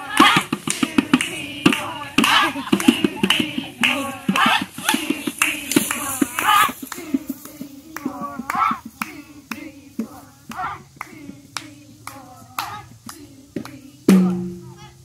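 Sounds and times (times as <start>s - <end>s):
hand claps: 0.0s - 14.5s
voices: 0.0s - 15.0s.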